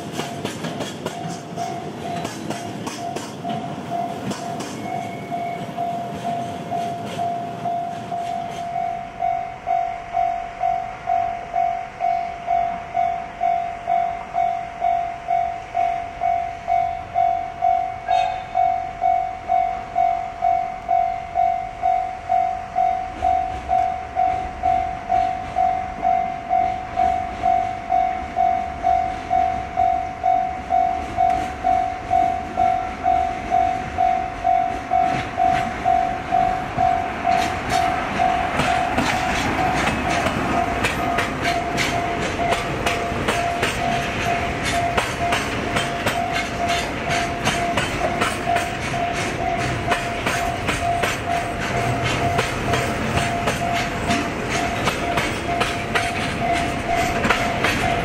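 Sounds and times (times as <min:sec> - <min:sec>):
train passing: 0:00.0 - 0:58.0
train wheel clicks on rail joints: 0:00.0 - 0:58.0
level crossing bell ringing: 0:01.2 - 0:58.0.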